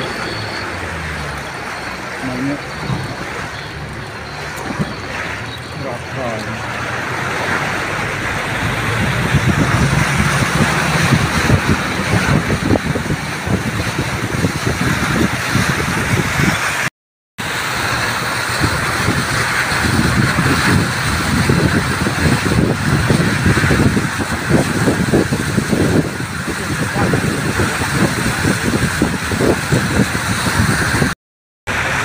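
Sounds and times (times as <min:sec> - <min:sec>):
car running noise: 0:00.0 - 0:31.1, 0:31.7 - 0:32.0
tyres splashing through water: 0:00.0 - 0:32.0.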